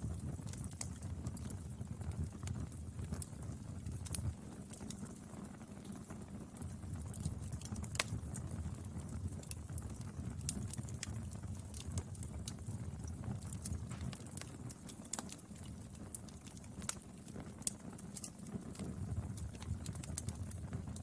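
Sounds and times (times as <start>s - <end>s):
low rumble of flames: 0.0s - 21.0s
wood crackling and popping: 0.0s - 21.0s.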